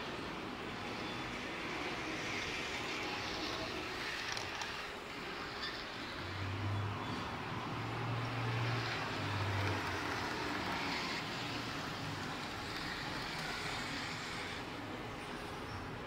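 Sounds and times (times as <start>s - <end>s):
model trains running: 0.0s - 6.4s, 7.6s - 16.0s.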